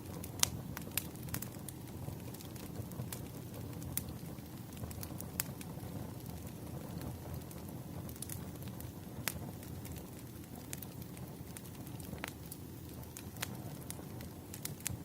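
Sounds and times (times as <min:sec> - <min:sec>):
wood fire crackling: 0:00.0 - 0:15.0
sharp pops of burning logs: 0:00.1 - 0:15.0.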